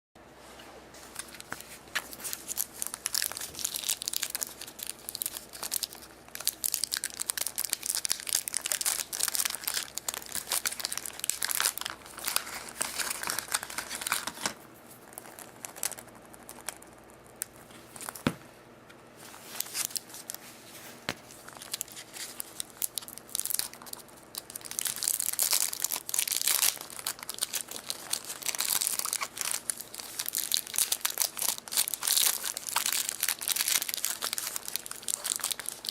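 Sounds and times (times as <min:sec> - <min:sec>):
foil wrappers crinkling: 0:01.1 - 0:18.3, 0:19.2 - 0:35.9.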